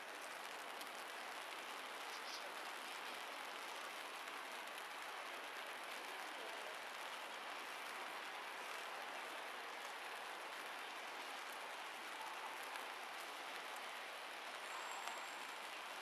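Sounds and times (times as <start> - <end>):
drizzle on wet pavement: 0.0 - 16.0.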